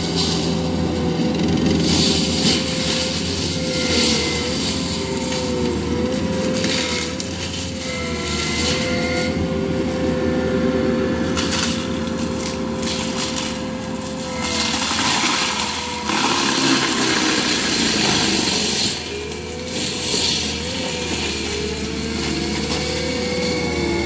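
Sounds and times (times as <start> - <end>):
wood grinding: 0.0 - 10.7, 11.3 - 24.0
mulcher drum whining: 0.0 - 24.0.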